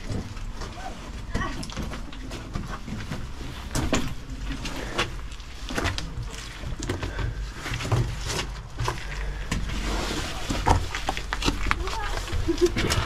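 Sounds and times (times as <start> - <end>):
footsteps crunching on stones: 0.0 - 13.0.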